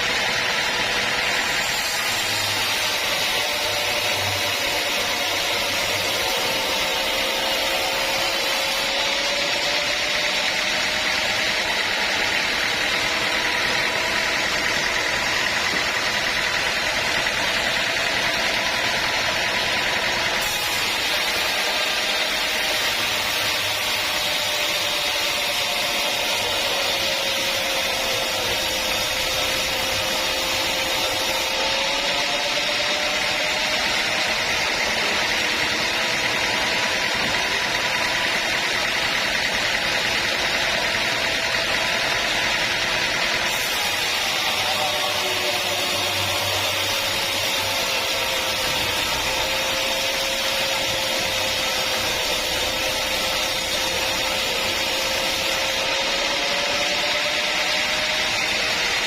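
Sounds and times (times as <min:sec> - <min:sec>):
sawmill saw whine: 0:00.0 - 0:59.0.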